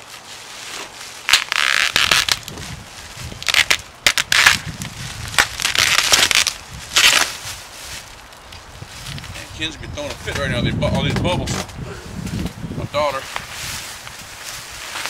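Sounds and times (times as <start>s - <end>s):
bubble wrap crinkling: 0.0s - 9.5s, 12.2s - 15.0s.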